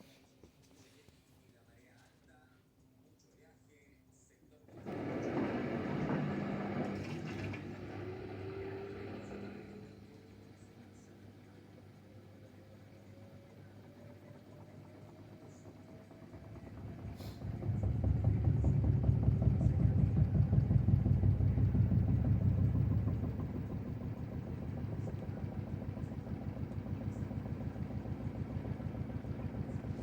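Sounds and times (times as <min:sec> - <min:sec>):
washing machine spin cycle: 0:04.6 - 0:30.0.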